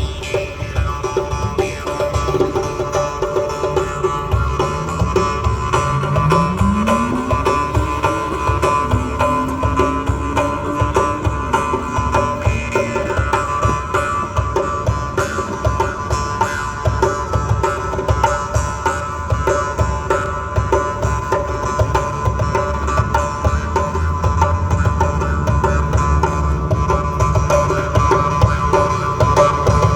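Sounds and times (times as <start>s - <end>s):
hand drum percussion: 0.0s - 29.9s
plucked string melody: 0.0s - 29.9s.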